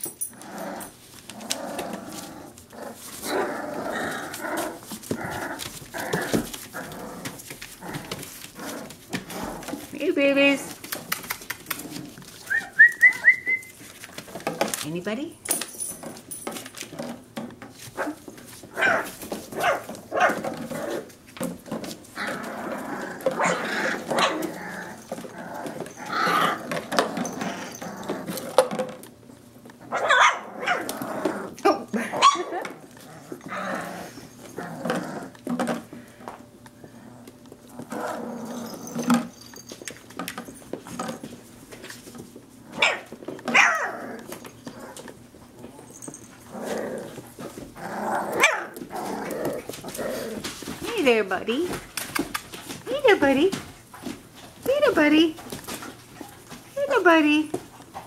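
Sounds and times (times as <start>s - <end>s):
puppies barking and growling: 0.0s - 14.8s, 15.8s - 58.0s.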